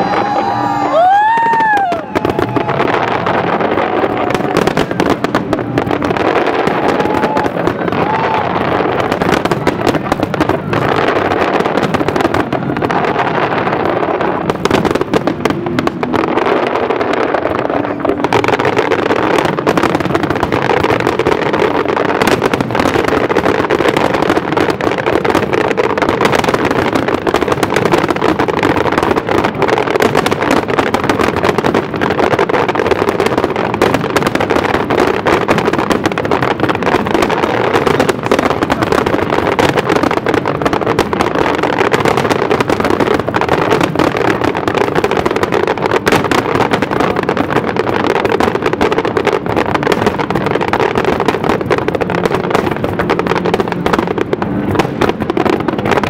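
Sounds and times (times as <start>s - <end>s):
fireworks crackling bangs: 0.0s - 56.0s.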